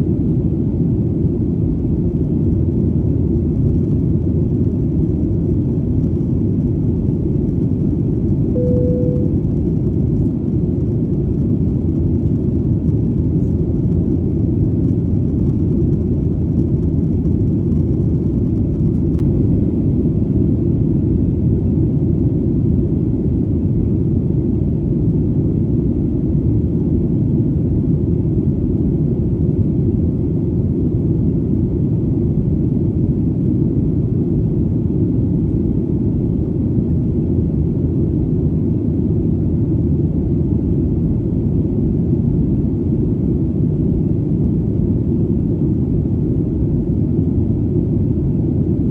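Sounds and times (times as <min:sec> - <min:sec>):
airplane engine drone: 0:00.0 - 0:48.9.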